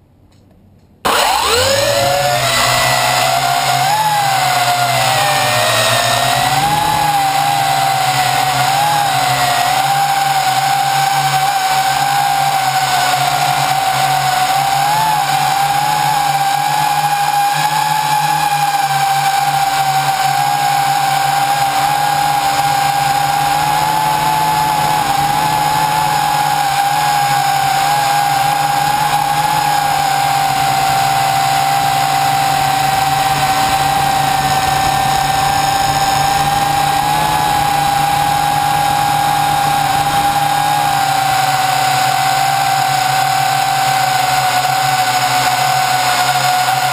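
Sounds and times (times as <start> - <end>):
quadcopter motors whining: 1.0 - 46.9.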